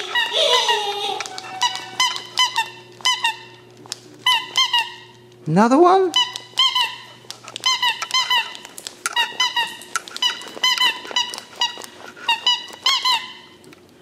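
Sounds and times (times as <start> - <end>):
squeaky toy squeaks: 0.0 - 3.6, 4.2 - 5.1, 6.1 - 13.5.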